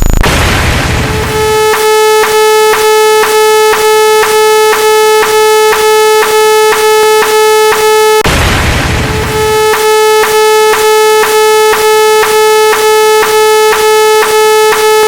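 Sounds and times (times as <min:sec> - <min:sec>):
buzzy synthesized electronic tone: 0:00.0 - 0:08.3, 0:09.0 - 0:15.0.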